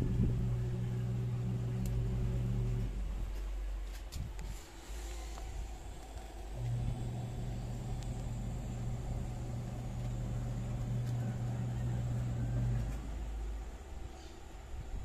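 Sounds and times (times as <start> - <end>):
electric blower fan humming: 0.0 - 15.0.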